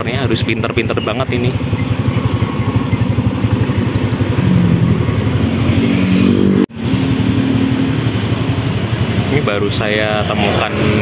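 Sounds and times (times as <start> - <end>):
motorcycle engine throbbing: 0.0 - 11.0.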